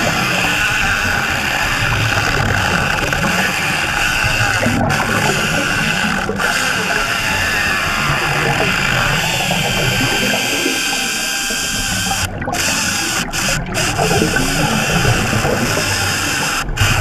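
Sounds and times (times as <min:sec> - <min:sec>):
underwater chainsaw whir: 0:00.0 - 0:17.0.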